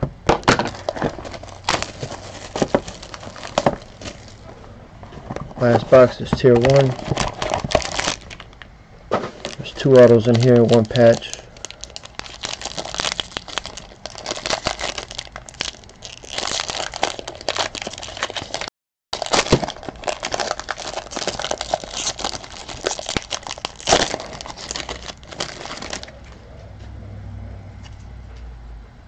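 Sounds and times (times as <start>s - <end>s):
foil wrapper crinkling and tearing: 0.4s - 4.5s, 5.6s - 26.2s.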